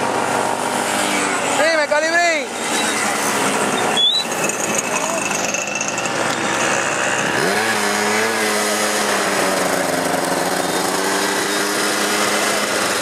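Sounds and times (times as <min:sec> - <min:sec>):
small motorcycle engine revving: 0:00.0 - 0:13.0.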